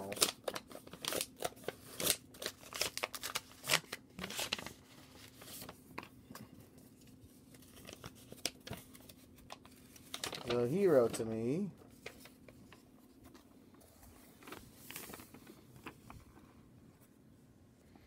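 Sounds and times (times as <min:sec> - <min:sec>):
paper envelope crackling: 0:00.0 - 0:06.1, 0:06.9 - 0:16.5.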